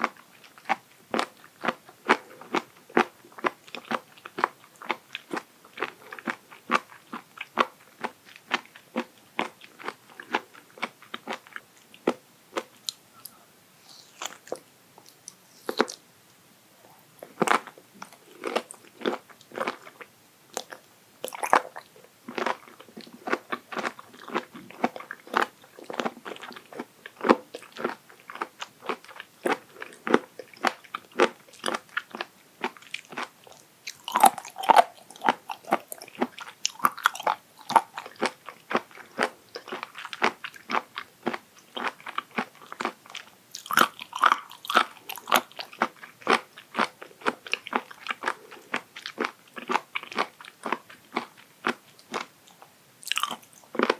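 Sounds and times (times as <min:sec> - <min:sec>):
crunchy chewing: 0:00.0 - 0:16.0, 0:16.8 - 0:53.9.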